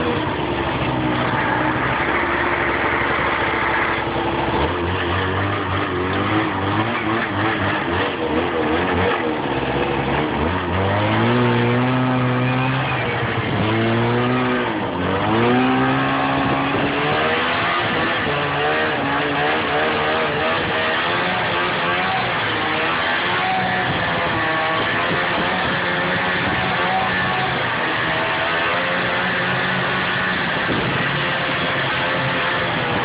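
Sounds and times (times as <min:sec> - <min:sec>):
snowmobile engine running: 0:00.0 - 0:33.0.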